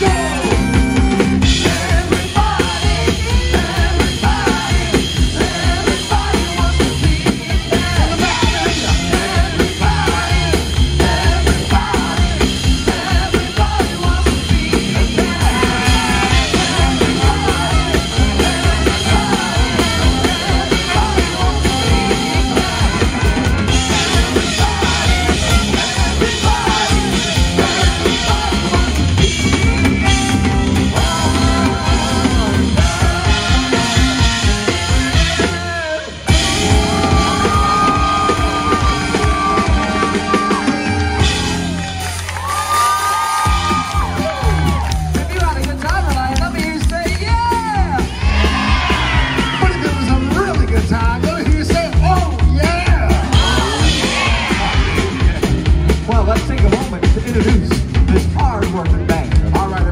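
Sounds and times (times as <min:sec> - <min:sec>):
drum kit beat: 0:00.0 - 0:59.9
live band music: 0:00.0 - 0:59.9.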